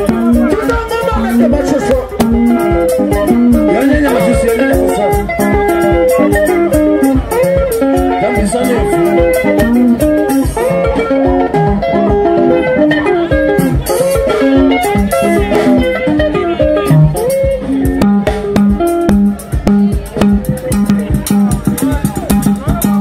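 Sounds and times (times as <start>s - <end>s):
bass guitar: 0.0s - 23.0s
electric guitar lines: 0.0s - 23.0s
steady drum beat: 0.0s - 23.0s.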